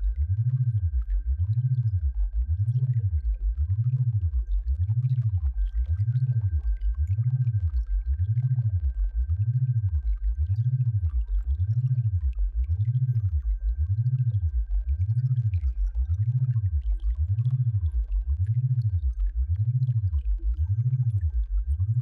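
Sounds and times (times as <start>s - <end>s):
low hum wobbling in pitch: 0.0s - 22.0s.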